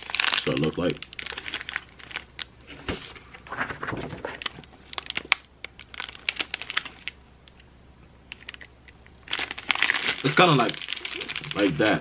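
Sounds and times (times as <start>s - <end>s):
wrapper crinkling: 0.0s - 2.5s, 3.1s - 7.2s, 8.3s - 12.0s.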